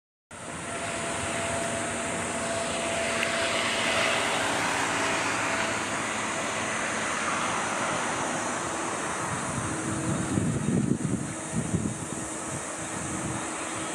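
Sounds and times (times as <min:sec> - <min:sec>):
jet engines at taxi power: 0:00.3 - 0:13.9.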